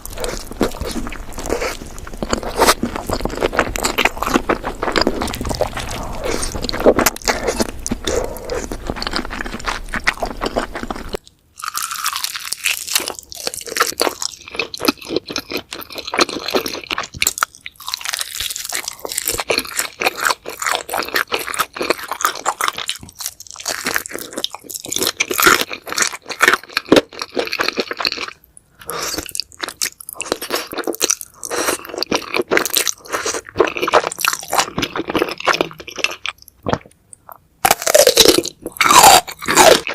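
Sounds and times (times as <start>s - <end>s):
chewing crispy fried chicken: 0.0s - 39.9s.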